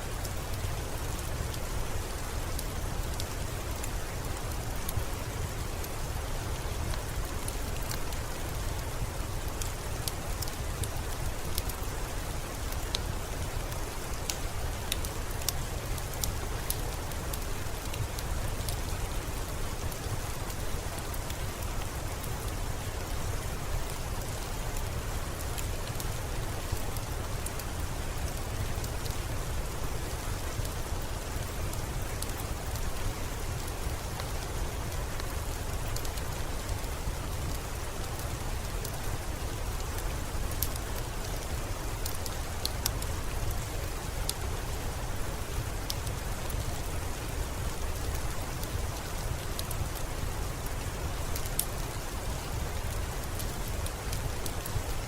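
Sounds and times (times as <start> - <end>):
steady rain: 0.0 - 55.0
ticks of single raindrops: 0.1 - 55.0.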